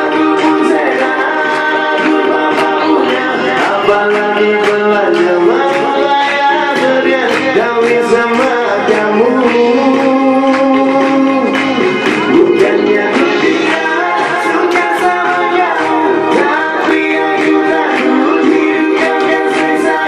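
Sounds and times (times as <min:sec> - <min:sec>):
keyboard accompaniment with beat: 0:00.0 - 0:20.0
man singing into a microphone: 0:00.0 - 0:20.0.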